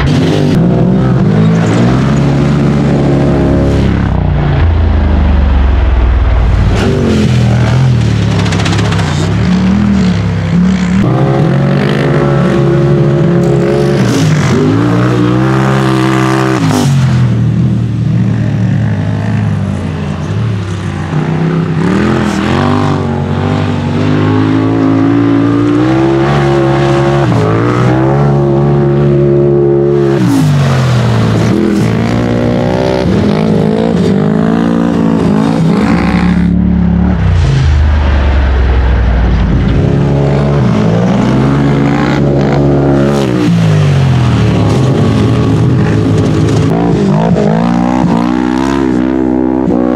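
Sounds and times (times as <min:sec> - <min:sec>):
off-road engine revving: 0:00.0 - 0:49.9.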